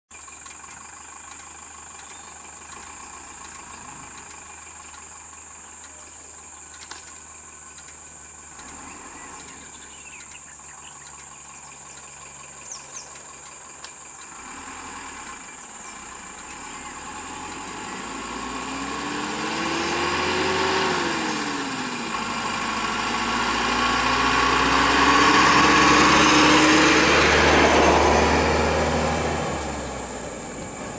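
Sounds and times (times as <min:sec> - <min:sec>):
bus diesel engine revving: 0:00.3 - 0:30.9.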